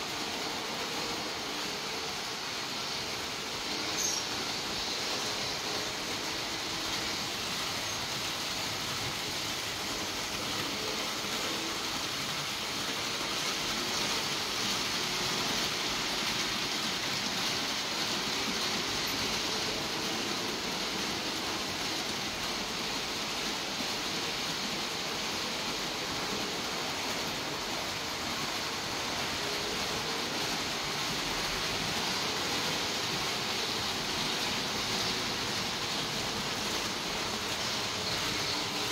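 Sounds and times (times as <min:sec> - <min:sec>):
model trains whirring: 0:00.0 - 0:38.9.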